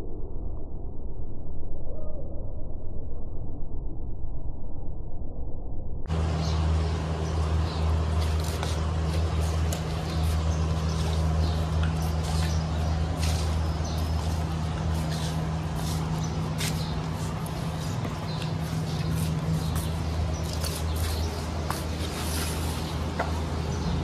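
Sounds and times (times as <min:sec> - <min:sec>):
low mechanical hum: 0:03.2 - 0:24.0.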